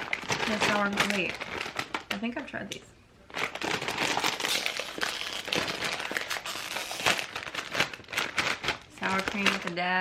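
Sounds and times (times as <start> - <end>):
chip bag crinkling: 0.0 - 2.4, 3.3 - 10.0.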